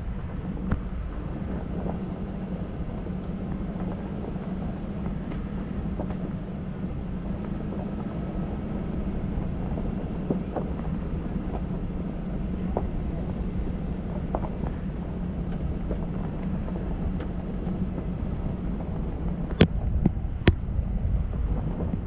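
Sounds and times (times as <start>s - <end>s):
engine and tyre rumble: 0.0s - 22.0s.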